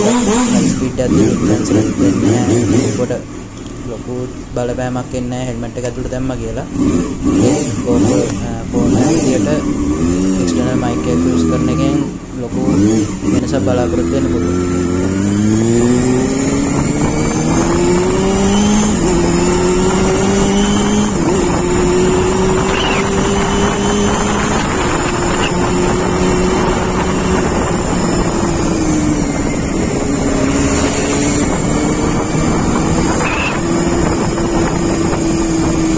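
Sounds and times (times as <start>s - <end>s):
motorcycle engine shifting gears: 0.0s - 35.9s
wind and road noise: 0.0s - 35.9s.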